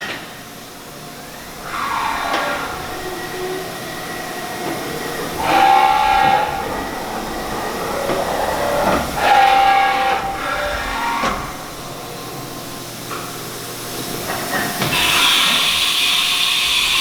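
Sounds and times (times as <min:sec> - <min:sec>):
machine motors whining: 0:00.1 - 0:15.8.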